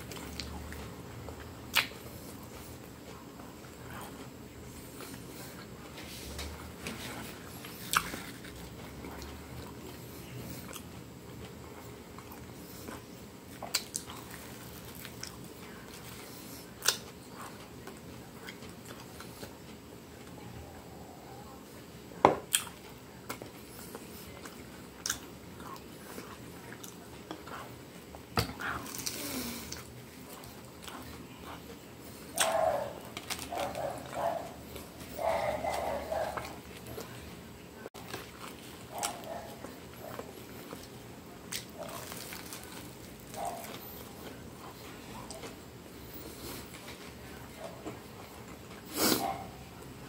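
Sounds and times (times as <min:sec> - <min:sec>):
person chewing: 0:00.0 - 0:20.4, 0:22.5 - 0:37.3, 0:38.0 - 0:49.9.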